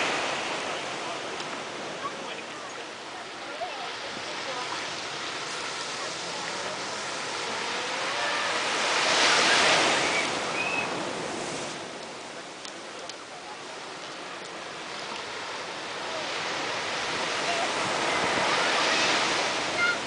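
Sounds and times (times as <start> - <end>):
waves washing up a beach: 0.0 - 20.0.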